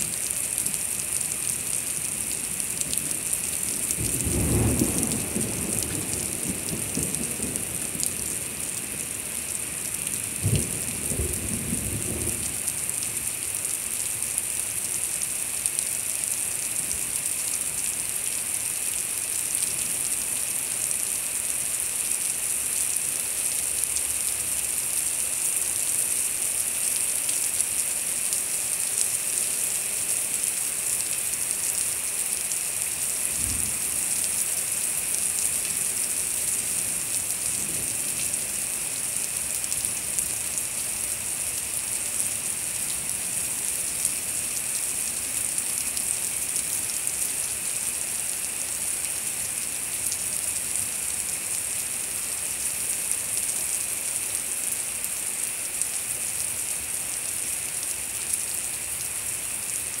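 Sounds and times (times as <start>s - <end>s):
heavy rain splashing into water: 0.0s - 60.0s.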